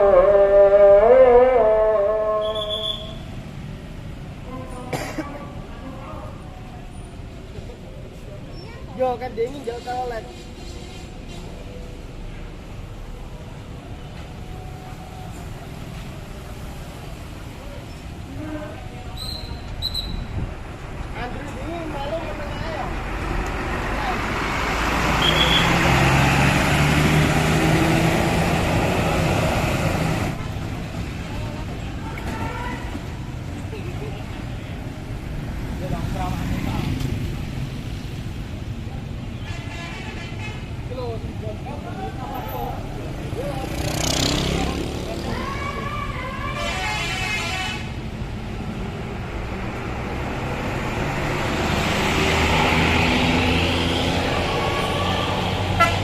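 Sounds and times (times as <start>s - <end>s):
bus engine rumbling: 0.0s - 56.0s
road noise: 0.0s - 56.0s.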